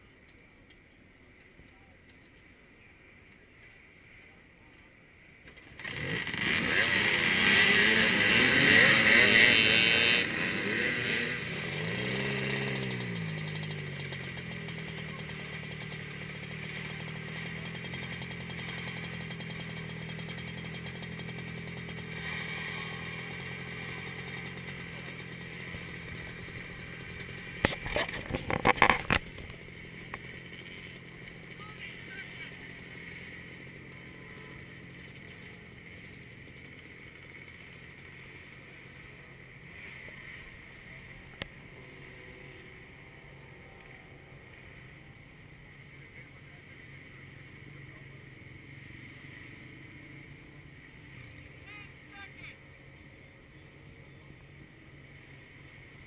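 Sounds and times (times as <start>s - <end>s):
motorcycle idling: 0.0s - 56.0s
motorcycles revving and pulling away: 0.0s - 56.0s.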